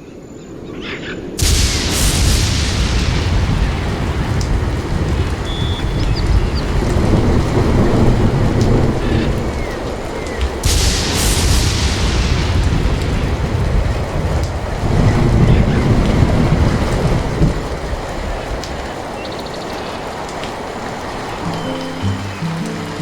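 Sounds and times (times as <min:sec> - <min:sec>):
heavy rain: 0:01.3 - 0:23.0
rolling thunder rumble: 0:01.3 - 0:23.0
thunderclap: 0:01.4 - 0:22.7.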